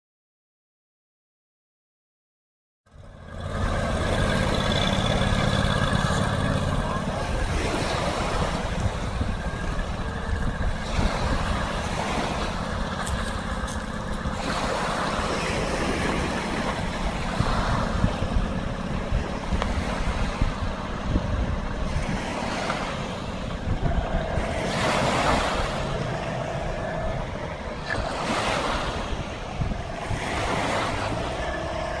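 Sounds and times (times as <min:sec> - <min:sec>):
vehicle engine running: 0:02.9 - 0:32.0
wind buffeting microphone: 0:02.9 - 0:32.0
waves washing on shore: 0:03.3 - 0:32.0.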